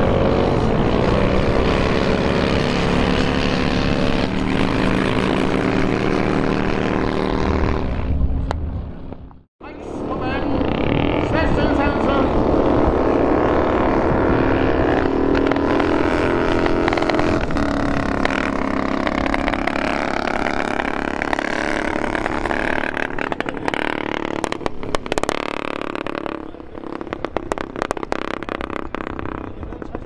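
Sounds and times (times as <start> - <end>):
motorcycle engines revving: 0.0 - 30.0.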